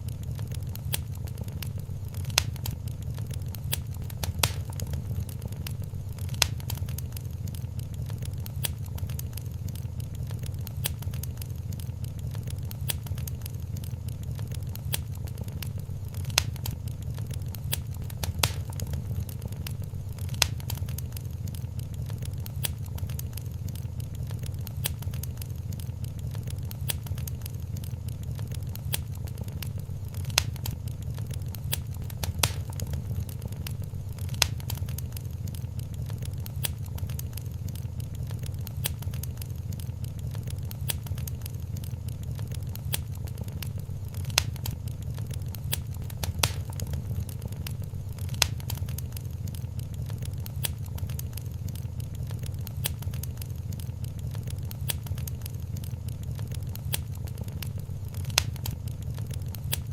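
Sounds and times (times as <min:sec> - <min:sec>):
sharp pops from fire: 0:00.0 - 0:59.9
wood fire crackling: 0:00.0 - 0:59.9.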